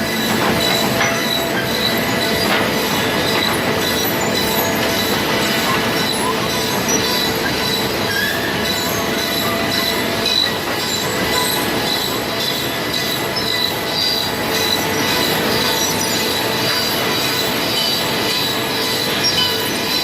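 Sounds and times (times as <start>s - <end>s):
sawmill machinery running: 0.0s - 20.0s.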